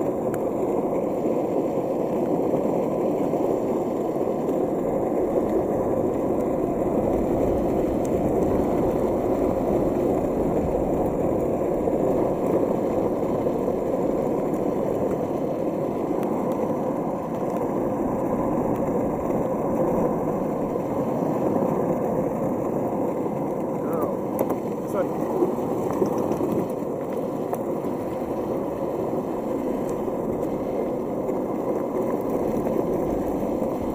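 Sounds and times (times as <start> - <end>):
longboard wheels rolling on asphalt: 0.0 - 33.9.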